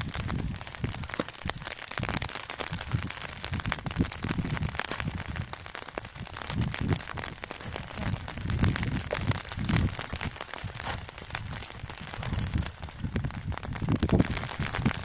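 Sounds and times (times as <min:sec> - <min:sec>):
plastic crackling: 0:00.0 - 0:15.0.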